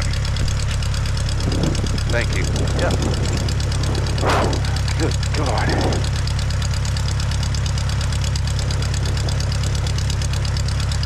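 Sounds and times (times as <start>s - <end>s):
plane engine idling: 0.0s - 11.0s.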